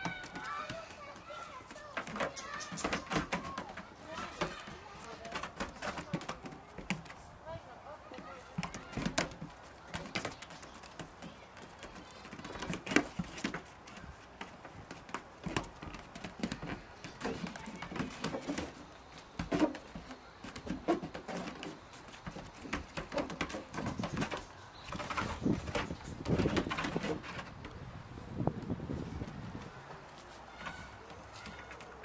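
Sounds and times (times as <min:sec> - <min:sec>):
hooves tapping on wooden roof: 0:00.0 - 0:27.8, 0:28.6 - 0:32.0.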